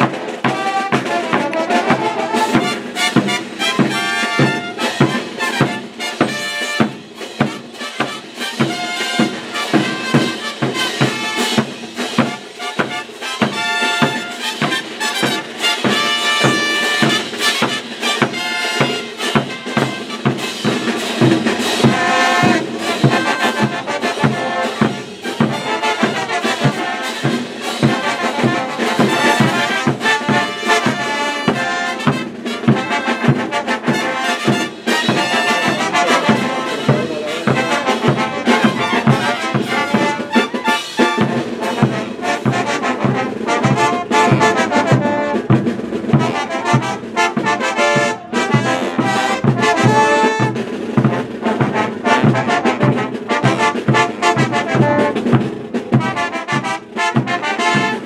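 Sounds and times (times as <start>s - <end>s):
steady drum beat: 0.0s - 58.0s
trumpets and trombones melody: 0.0s - 58.0s.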